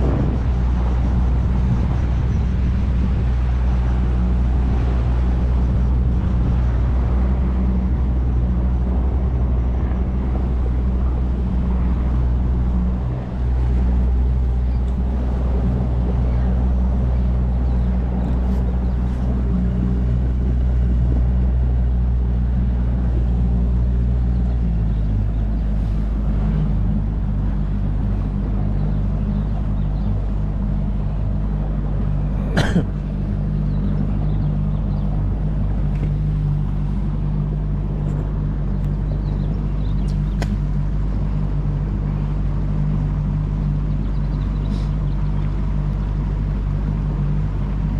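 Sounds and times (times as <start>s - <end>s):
motorboat engine running: 0.0s - 47.9s.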